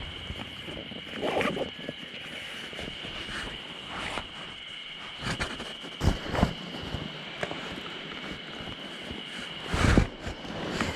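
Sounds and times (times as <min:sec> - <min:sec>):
high insect drone: 0:00.0 - 0:10.9.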